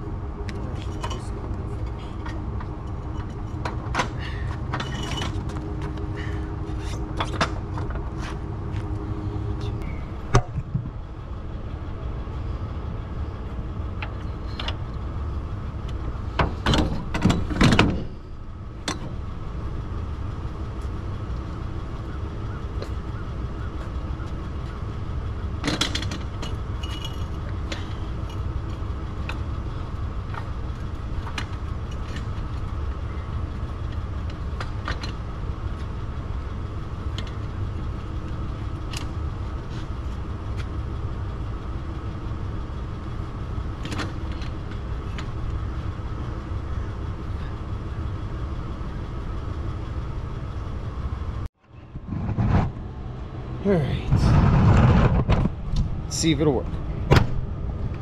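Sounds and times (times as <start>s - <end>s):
truck engine idling: 0.0s - 52.0s.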